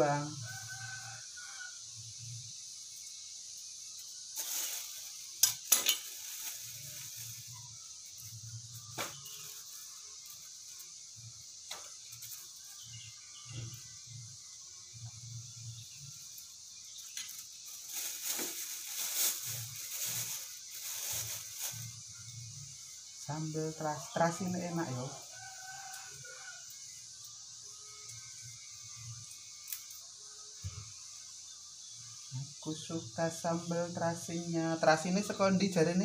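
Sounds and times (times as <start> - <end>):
steady high hiss: 0.0 - 36.0.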